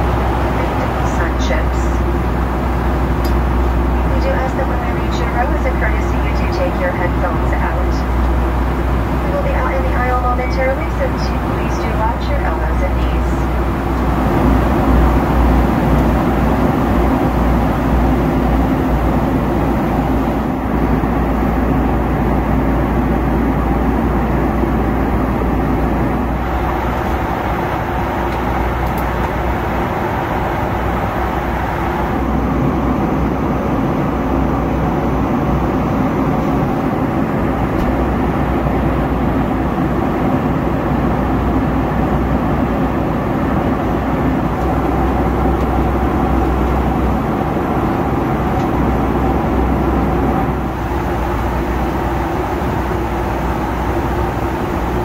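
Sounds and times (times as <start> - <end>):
airflow rushing in cabin: 0.0 - 55.0
low engine hum: 0.0 - 55.0.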